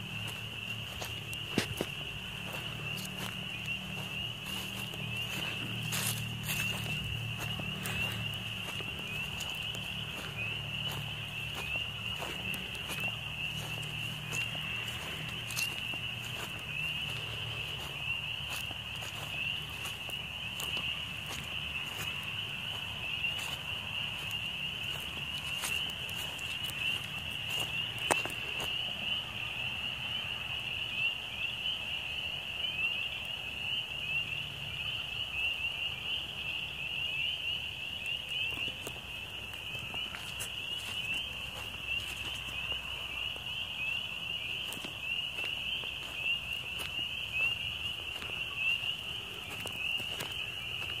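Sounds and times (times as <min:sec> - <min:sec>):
chorus of frogs calling: 0:00.0 - 0:51.0.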